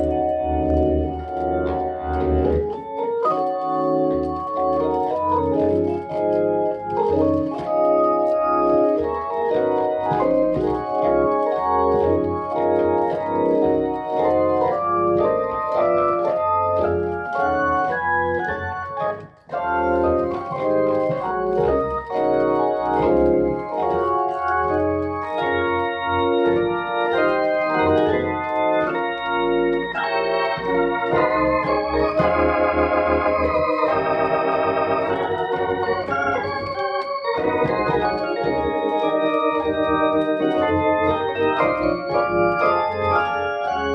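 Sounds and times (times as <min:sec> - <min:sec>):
bass pedal notes: 0:00.0 - 0:43.9
organ playing chords: 0:00.0 - 0:43.9.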